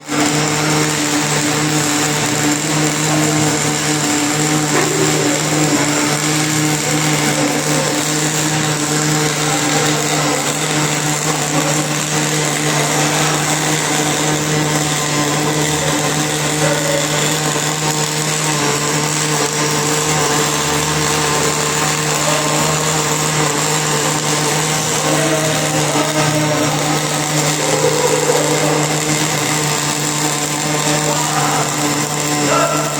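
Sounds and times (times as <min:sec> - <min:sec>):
welding arc crackling: 0:00.0 - 0:32.9.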